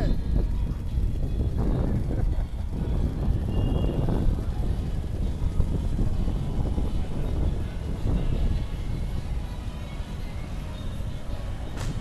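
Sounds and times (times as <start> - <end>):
street traffic rumble: 0.0 - 12.0
wind on microphone: 0.0 - 12.0.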